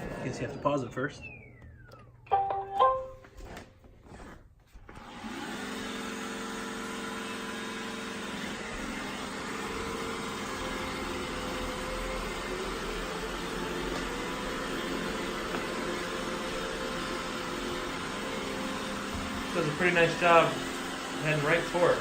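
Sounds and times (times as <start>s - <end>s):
robot vacuum motor humming: 0.0s - 2.3s, 5.0s - 22.0s.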